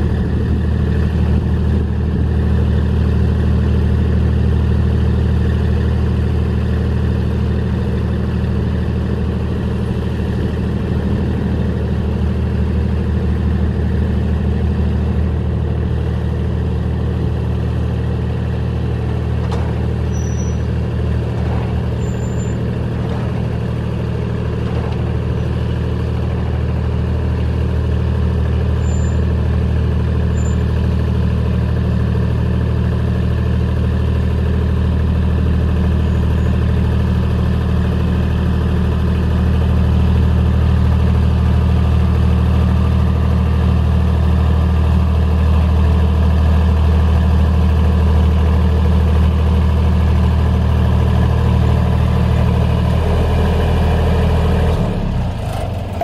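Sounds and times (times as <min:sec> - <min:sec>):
generator diesel engine running: 0:00.0 - 0:56.0.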